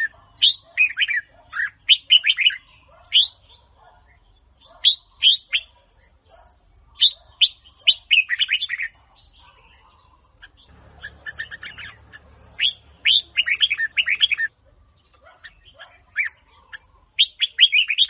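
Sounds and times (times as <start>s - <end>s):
bird singing whistled notes: 0.0s - 5.8s, 7.0s - 9.8s, 10.5s - 18.0s.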